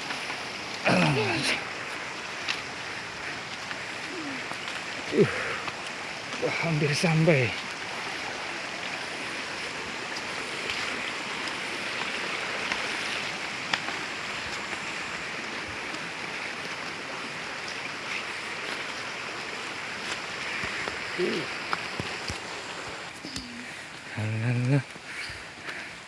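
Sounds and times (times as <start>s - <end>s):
river water rushing: 0.0s - 24.2s.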